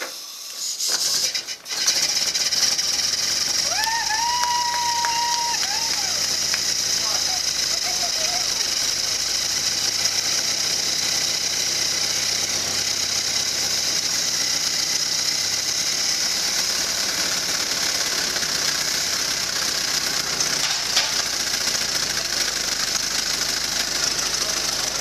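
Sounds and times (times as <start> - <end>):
old car engine running: 0.0 - 25.0.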